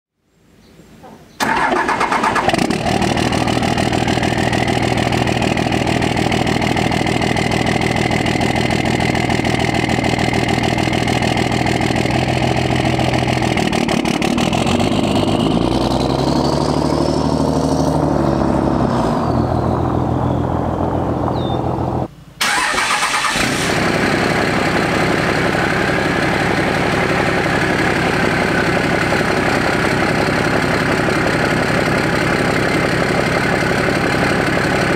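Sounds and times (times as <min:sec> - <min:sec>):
diesel truck engine idling and revving: 0:01.4 - 0:34.9.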